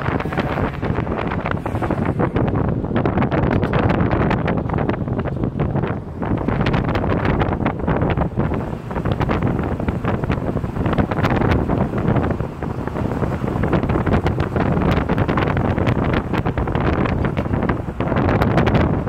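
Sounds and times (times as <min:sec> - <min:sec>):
truck road noise: 0:00.0 - 0:19.0
wind buffeting microphone: 0:00.0 - 0:19.0.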